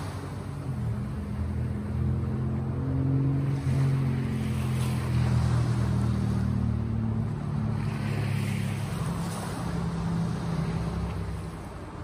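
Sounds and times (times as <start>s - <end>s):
sea waves breaking: 0.0s - 12.0s.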